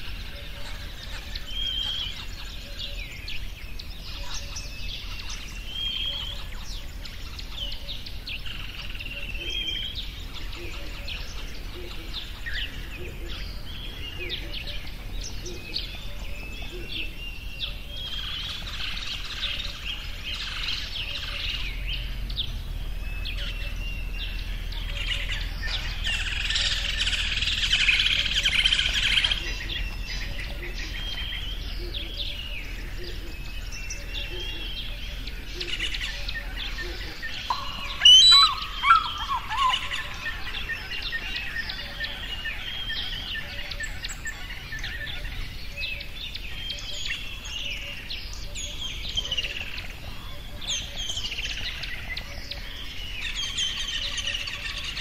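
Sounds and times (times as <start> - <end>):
loud sharp bird calls: 0.0 - 55.0
small birds chirping chorus: 0.0 - 55.0.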